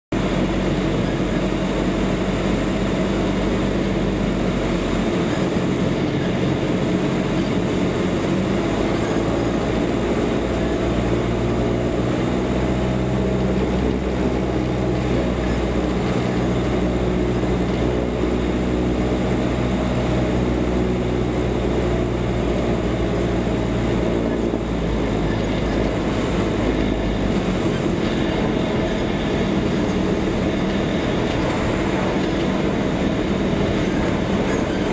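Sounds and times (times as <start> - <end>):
propeller plane engine drone: 0.1 - 34.9.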